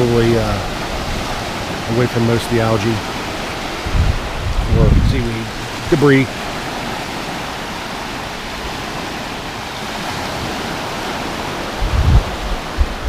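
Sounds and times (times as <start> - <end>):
low surf on beach: 0.0 - 13.0
wind buffeting microphone: 0.0 - 13.0.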